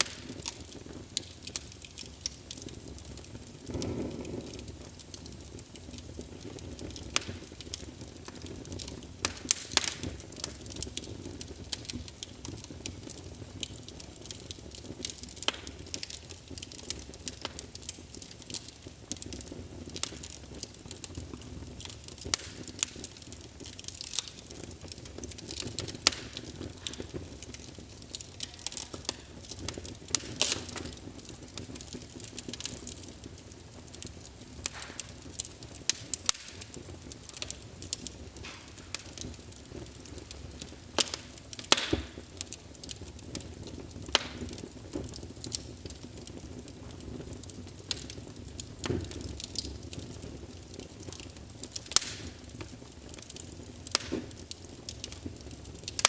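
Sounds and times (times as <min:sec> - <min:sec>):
fire flames rushing: 0:00.0 - 0:56.0
wood fire crackling and popping: 0:00.0 - 0:56.0.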